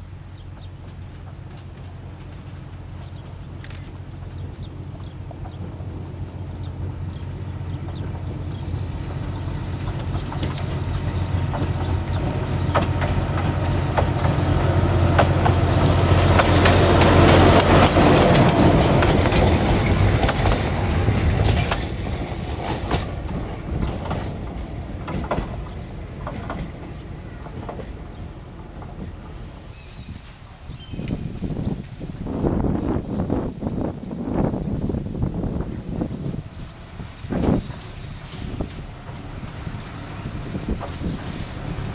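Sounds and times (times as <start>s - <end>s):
locomotive engine drone: 0.0s - 41.9s
wheels clattering over rail joints: 0.4s - 31.6s, 35.5s - 41.9s.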